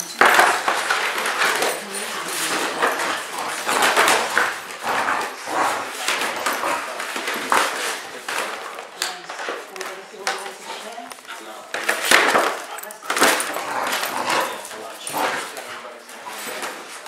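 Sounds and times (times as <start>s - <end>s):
scuffling noises: 0.0s - 17.0s.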